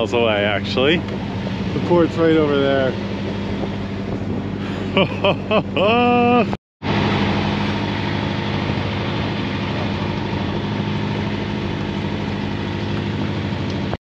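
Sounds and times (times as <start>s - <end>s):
boat engine running: 0.0s - 14.0s
wind and water rushing: 0.0s - 14.0s.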